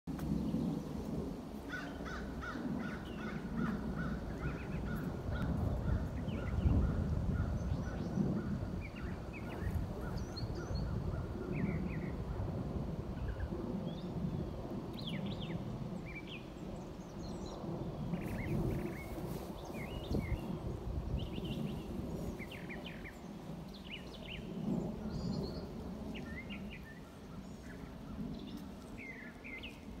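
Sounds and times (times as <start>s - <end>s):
distant aircraft rumble: 0.1s - 30.0s.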